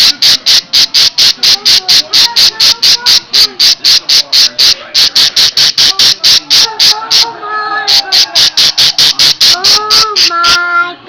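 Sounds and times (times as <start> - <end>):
parakeet high-pitched alarm chirps: 0.0 - 10.6.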